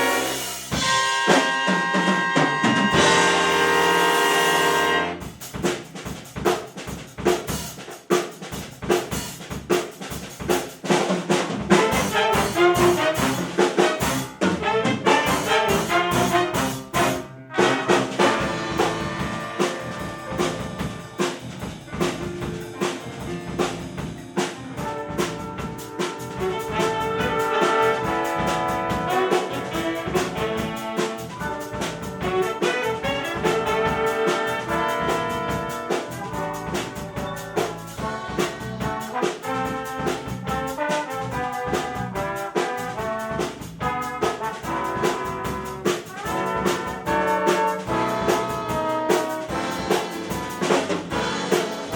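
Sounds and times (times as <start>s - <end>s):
trumpet and trombone brass: 0.0s - 5.5s, 11.6s - 22.2s, 24.4s - 51.9s
drum kit: 0.0s - 51.9s
jazz big band playing: 0.0s - 51.9s.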